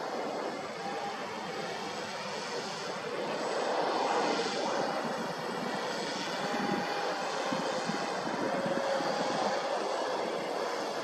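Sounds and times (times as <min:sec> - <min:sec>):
model aircraft propeller drone: 0:00.0 - 0:11.0.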